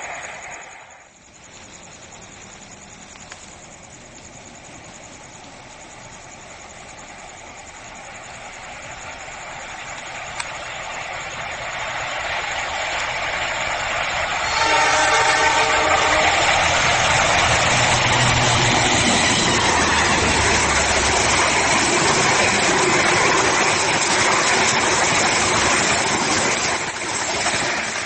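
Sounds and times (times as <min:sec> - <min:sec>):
diesel locomotive engine: 0:00.0 - 0:28.0.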